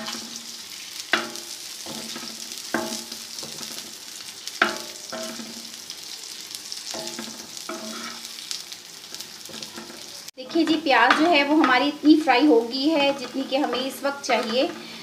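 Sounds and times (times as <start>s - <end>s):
onions sizzling in fat: 0.0s - 15.0s.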